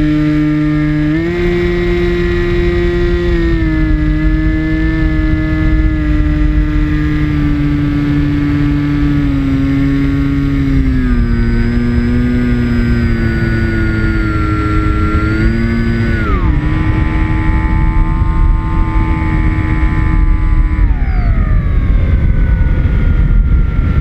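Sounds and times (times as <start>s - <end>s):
model airplane motor droning: 0.0s - 24.0s
wind rush on microphone: 0.0s - 24.0s.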